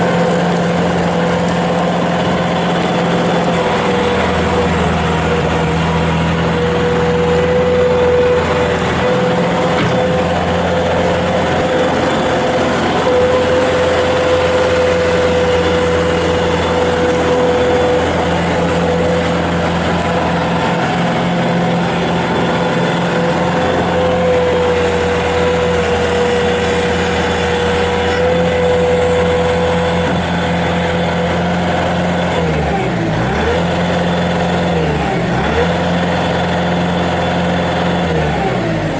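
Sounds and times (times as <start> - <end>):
steady whine: 0.0 - 33.2
diesel engine running: 0.0 - 38.9.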